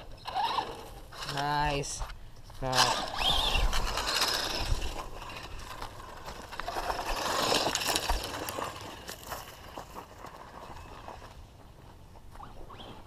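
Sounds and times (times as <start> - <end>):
toy truck tyres crunching on gravel: 0.0 - 13.0.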